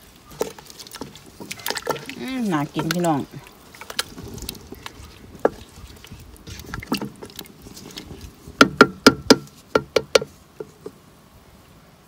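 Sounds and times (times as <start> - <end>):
wooden spoon stirring broth in pot: 0.0 - 11.0.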